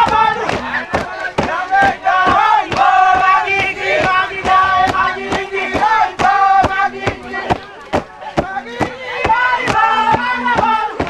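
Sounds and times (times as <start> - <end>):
men chanting and singing: 0.0 - 11.0
men shouting calls: 0.0 - 11.0
sharp rhythmic beats: 0.0 - 11.0.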